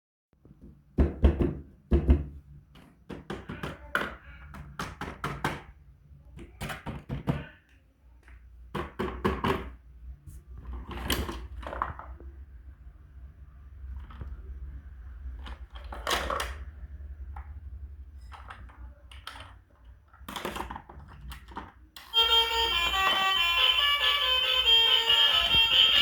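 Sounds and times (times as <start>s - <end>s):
toy cars knocking and clacking: 2.7s - 9.8s, 10.6s - 12.4s, 13.8s - 26.0s.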